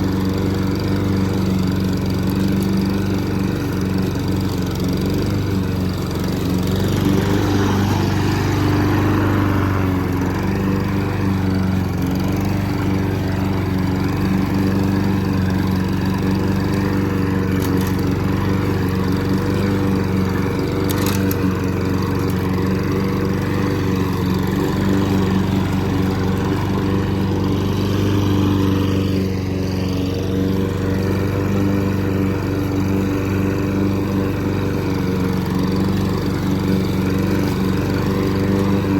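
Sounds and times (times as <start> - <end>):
lawn mower cutting grass: 0.0 - 38.9.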